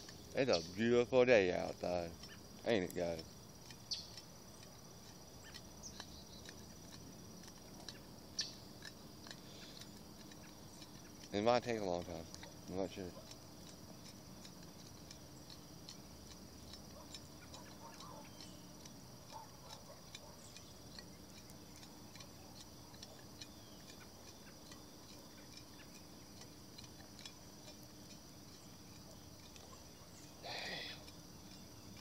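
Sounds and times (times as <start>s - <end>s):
high-pitched insect trill: 0.0s - 32.0s
light ticking: 0.0s - 32.0s.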